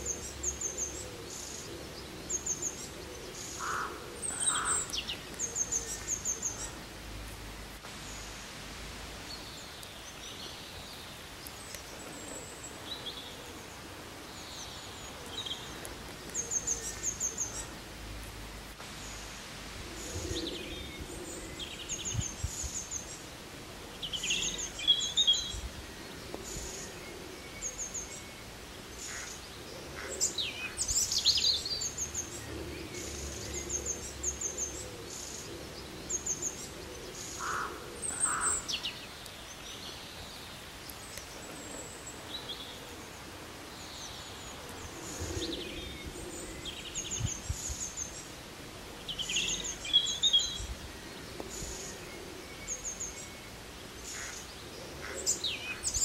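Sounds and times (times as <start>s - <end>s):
birds chirping: 0.0s - 56.0s
open-air ambience: 0.0s - 56.0s.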